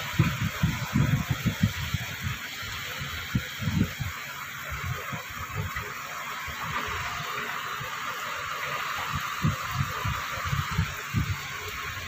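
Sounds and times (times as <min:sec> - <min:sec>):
rain on a vehicle: 0:00.0 - 0:12.0.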